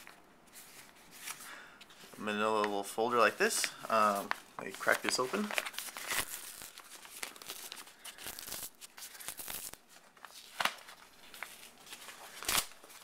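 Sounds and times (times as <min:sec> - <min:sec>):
paper envelope rustling: 0:00.0 - 0:13.0.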